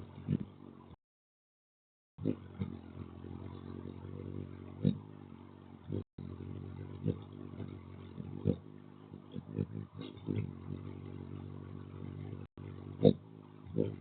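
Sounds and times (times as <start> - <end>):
motor engine running: 2.2 - 14.0.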